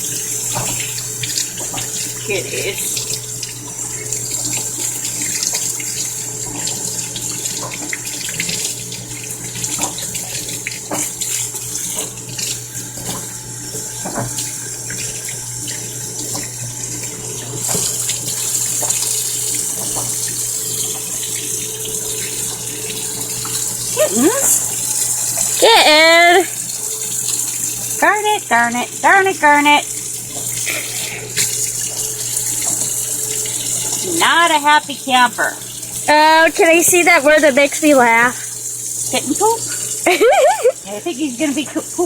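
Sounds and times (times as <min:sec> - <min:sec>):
tap water running into a sink: 0:00.0 - 0:42.0
water splashing: 0:00.0 - 0:42.0.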